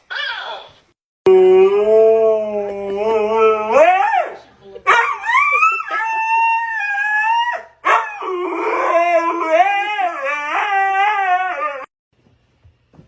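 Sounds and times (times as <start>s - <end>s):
dog howling: 1.3s - 11.9s.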